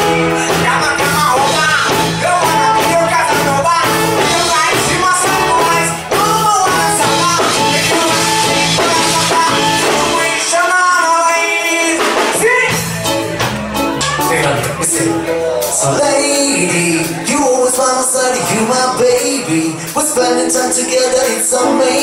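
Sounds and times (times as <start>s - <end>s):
reggae band playing: 0.0s - 22.0s.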